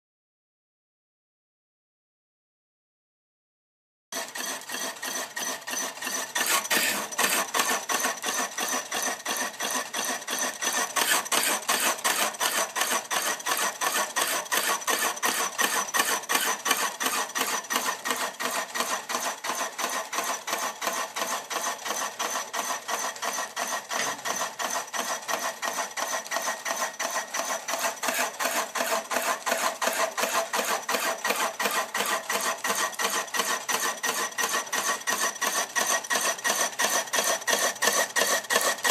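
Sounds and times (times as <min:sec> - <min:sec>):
lathe cutter scraping wood: 0:04.2 - 0:38.9.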